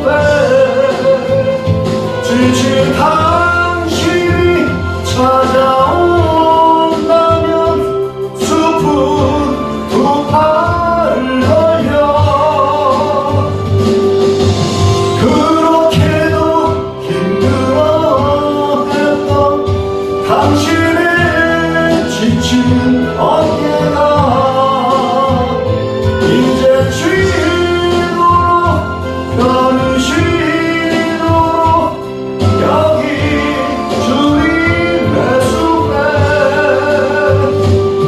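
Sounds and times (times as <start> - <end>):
person singing gospel: 0.0 - 13.8, 15.1 - 38.0
instrumental accompaniment: 0.0 - 38.0.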